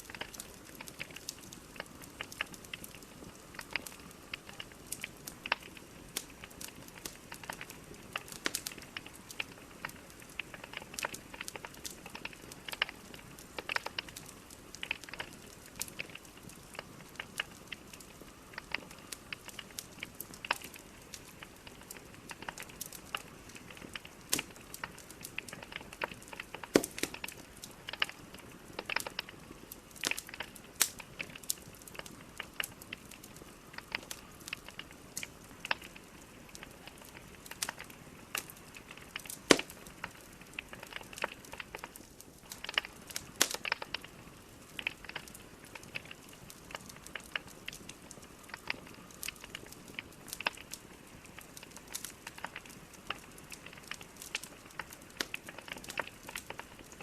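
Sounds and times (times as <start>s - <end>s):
logs crackling and popping: 0.0s - 57.0s.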